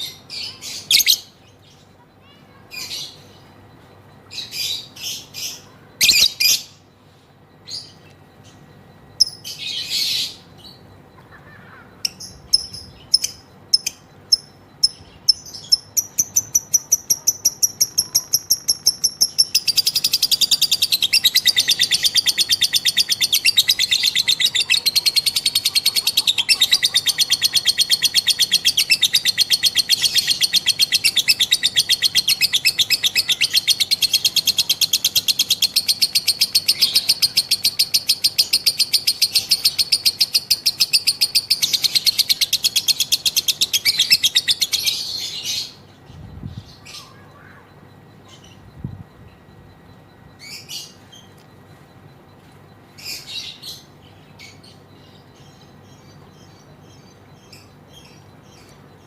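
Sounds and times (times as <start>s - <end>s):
lovebird chattering trill: 0.0s - 1.6s, 4.3s - 6.8s, 7.7s - 51.4s.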